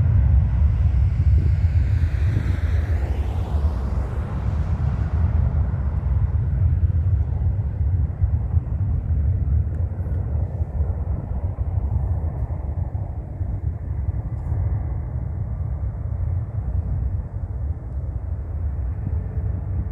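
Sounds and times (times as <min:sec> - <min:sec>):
jet engine rumble: 0:00.0 - 0:19.9.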